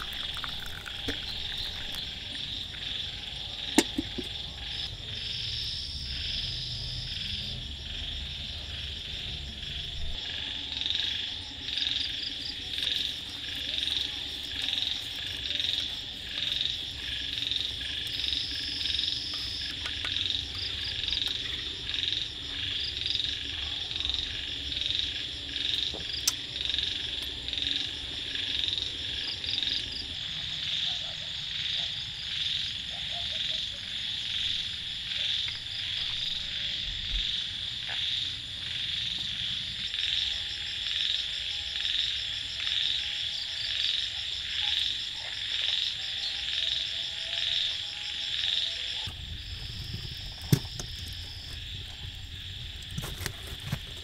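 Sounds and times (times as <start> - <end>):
chorus of calling frogs: 0.0 - 53.7.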